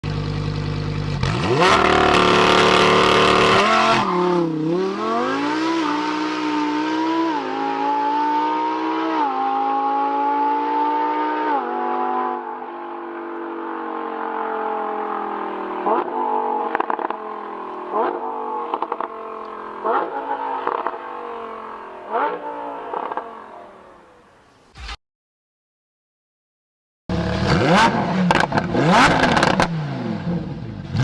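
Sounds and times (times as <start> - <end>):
car engine revving: 0.2 - 23.9, 27.1 - 31.0.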